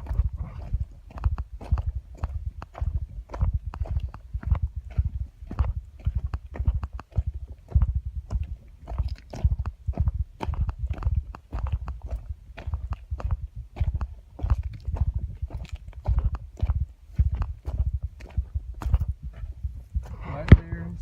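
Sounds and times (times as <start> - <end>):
person chewing and crunching berries: 0.0 - 20.2.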